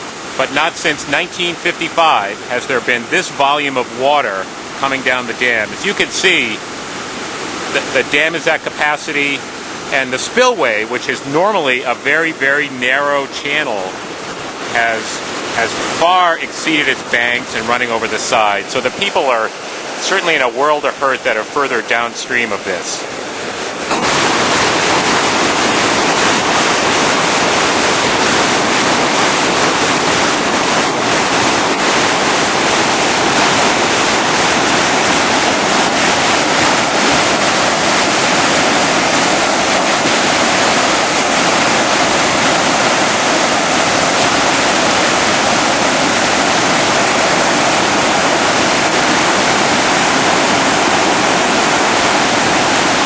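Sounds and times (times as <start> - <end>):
water rushing over spillway: 0.0 - 53.0.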